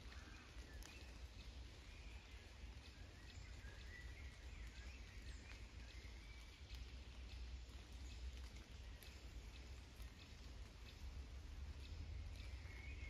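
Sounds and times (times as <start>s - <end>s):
distant birds singing: 0.0s - 13.0s
raindrop ticks: 0.0s - 13.0s.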